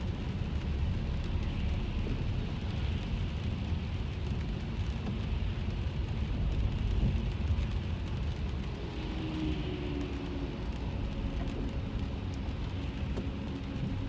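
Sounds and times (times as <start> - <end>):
rain on a car: 0.0 - 14.0
road rumble inside car: 0.0 - 14.0.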